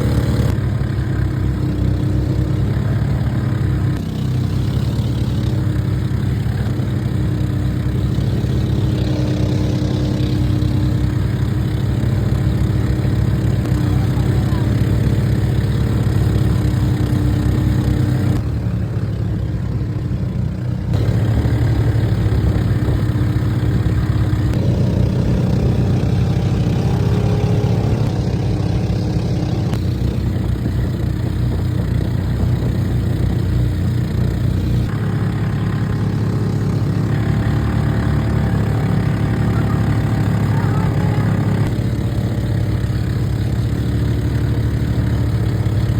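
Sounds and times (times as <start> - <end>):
engine pulsing drone: 0.0 - 45.9.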